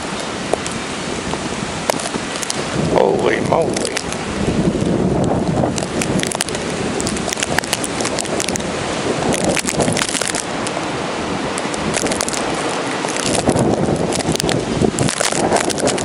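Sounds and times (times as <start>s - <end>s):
sharp crackles: 0.0s - 10.9s, 11.5s - 16.0s
wind blowing across microphone: 0.0s - 16.0s.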